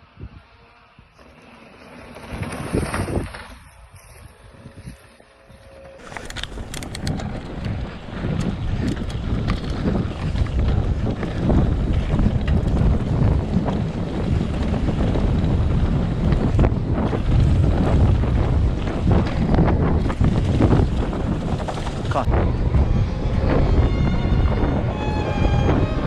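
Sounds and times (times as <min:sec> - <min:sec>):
wind buffeting microphone: 0:02.1 - 0:26.0.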